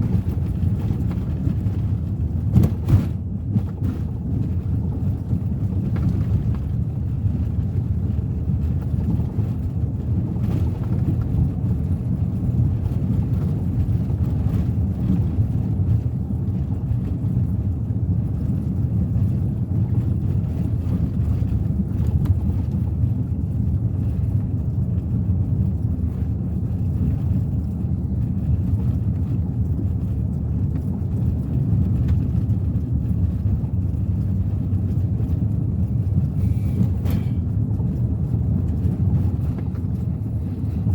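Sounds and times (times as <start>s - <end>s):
car engine running: 0.0s - 40.9s
tyre and road noise: 0.0s - 40.9s.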